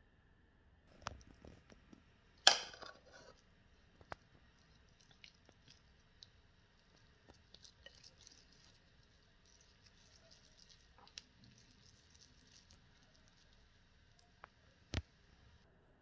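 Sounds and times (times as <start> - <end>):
hands squishing dough: 0.9 - 15.3.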